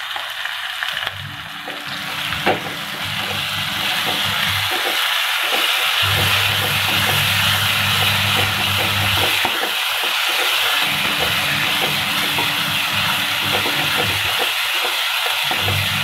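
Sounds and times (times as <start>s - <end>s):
food sizzling in hot oil: 0.0s - 16.0s
spatula knocking and scraping: 1.7s - 14.5s.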